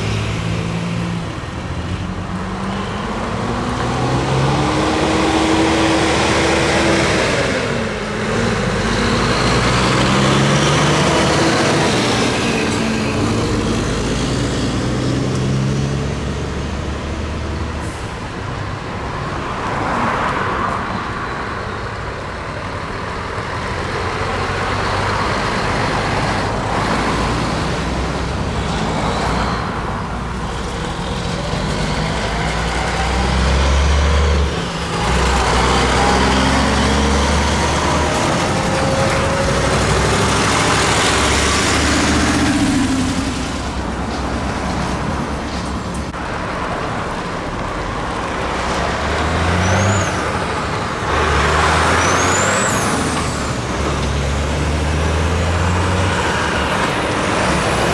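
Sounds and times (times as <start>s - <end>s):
heavy trucks driving past: 0.0s - 57.9s.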